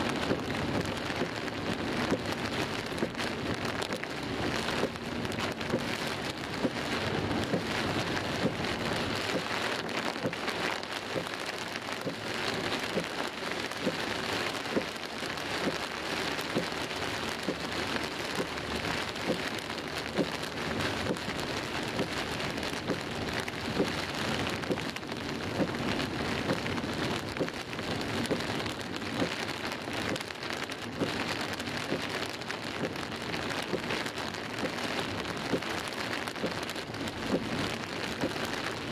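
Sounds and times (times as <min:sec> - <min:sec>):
heavy rain on car windscreen: 0:00.0 - 0:38.9.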